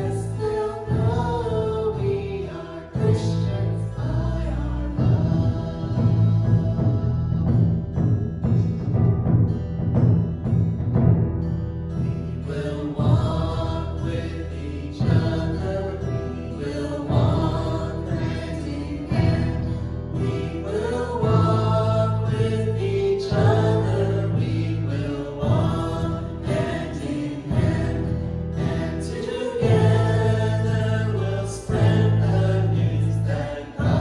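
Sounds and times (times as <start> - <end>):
voices singing a hymn: 0.0 - 8.0, 12.0 - 34.0
hand drum: 0.0 - 12.3, 15.0 - 31.0
bass guitar: 0.0 - 34.0
guitars: 0.0 - 34.0
piano: 0.0 - 34.0.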